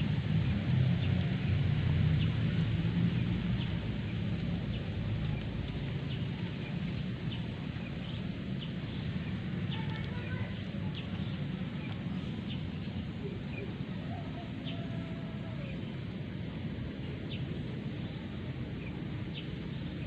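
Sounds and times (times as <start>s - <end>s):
low outdoor rumble: 0.0s - 20.0s
birds chirping: 2.1s - 20.0s.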